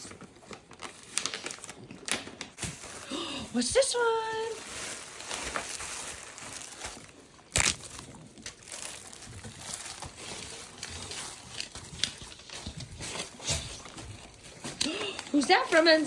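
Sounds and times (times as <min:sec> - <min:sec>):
sharp packaging crackle: 0:00.0 - 0:16.0
wrapping crinkling and rustling: 0:00.0 - 0:16.0.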